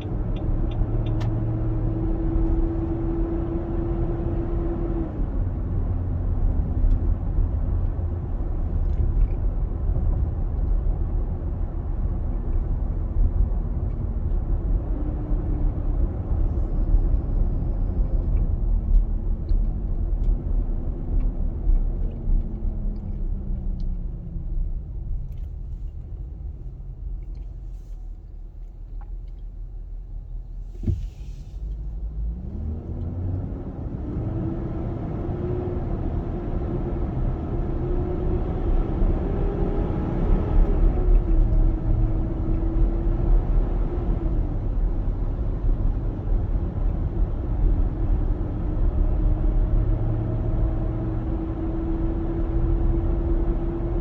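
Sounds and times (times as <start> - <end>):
car engine while driving: 0.0 - 54.0
constant low rumble: 0.0 - 54.0.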